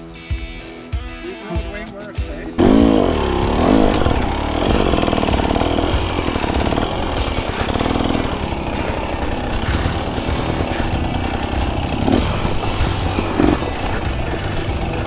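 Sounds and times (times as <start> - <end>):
dirt bike engine revving: 2.6 - 15.0.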